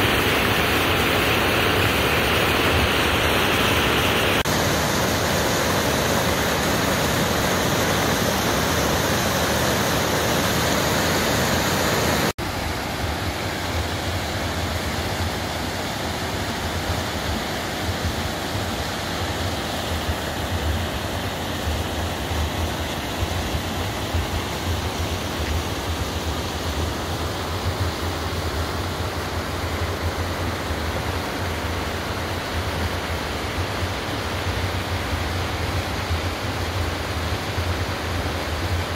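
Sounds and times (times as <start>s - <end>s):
stream cascading over boulders: 0.0s - 38.9s.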